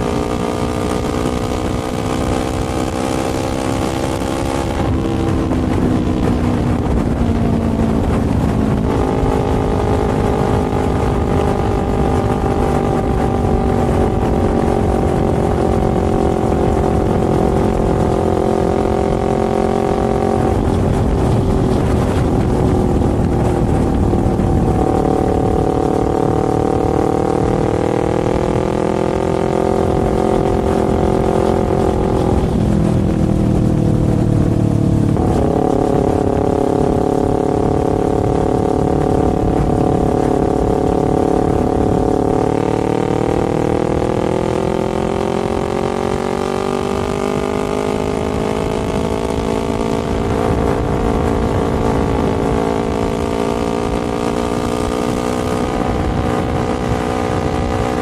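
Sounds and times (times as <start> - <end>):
motorcycle engine running: 0.0 - 58.0
wind rushing: 0.0 - 58.0.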